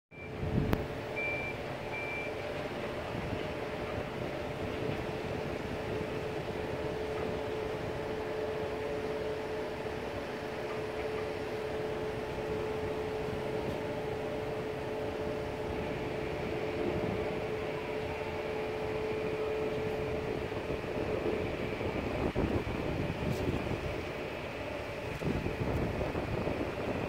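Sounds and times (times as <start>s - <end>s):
steady machine hum: 0.2s - 27.0s.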